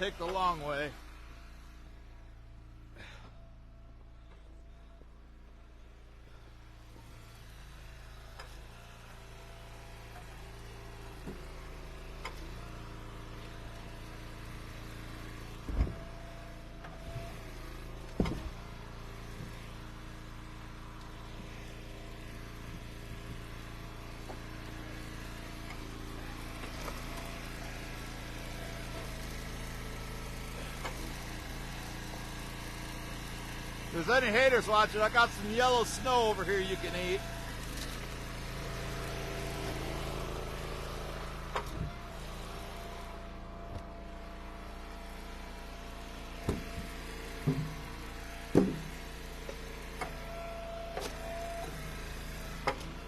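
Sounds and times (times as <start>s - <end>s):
log splitter engine running: 0.0s - 53.0s.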